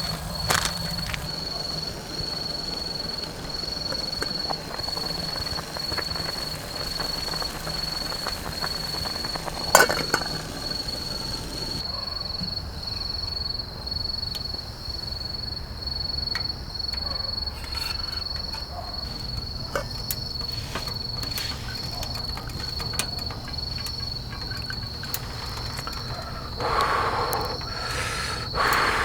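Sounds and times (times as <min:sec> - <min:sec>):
wood fire crackling: 0:00.0 - 0:11.8, 0:17.4 - 0:29.0
cricket chirping: 0:00.0 - 0:29.0.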